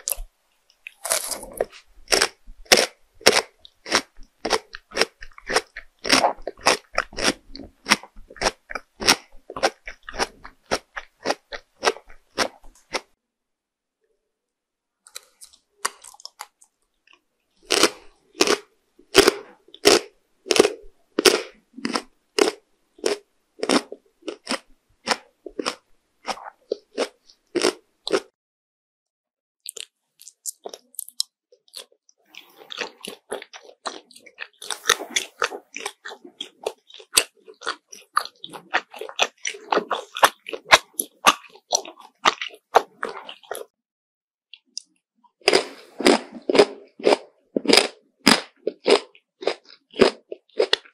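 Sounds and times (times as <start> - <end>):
chewing crunchy candy: 0.0 - 13.2, 15.1 - 28.4, 29.6 - 43.8, 44.6 - 50.9.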